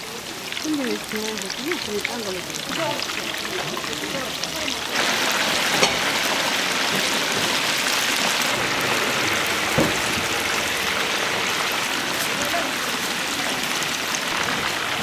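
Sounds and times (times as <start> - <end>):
chicken deep-frying in oil: 0.0 - 15.0.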